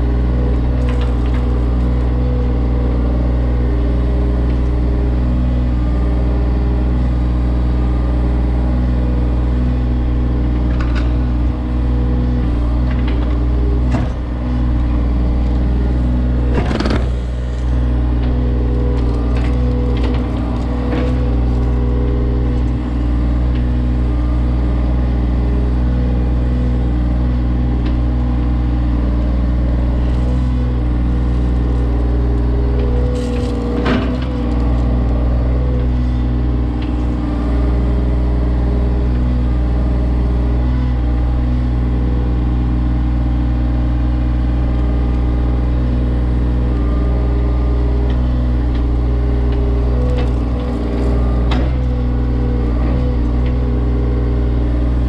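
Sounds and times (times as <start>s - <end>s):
excavator diesel engine running: 0.0s - 55.0s
excavator knocks and clanks: 0.2s - 2.9s, 9.5s - 41.6s, 44.3s - 55.0s.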